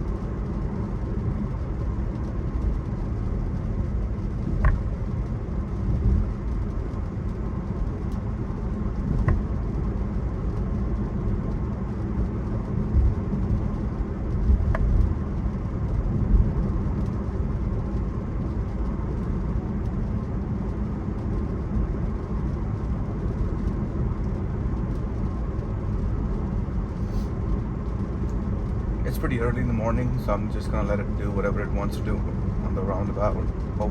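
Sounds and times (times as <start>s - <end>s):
road and tyre noise in car: 0.0s - 33.9s.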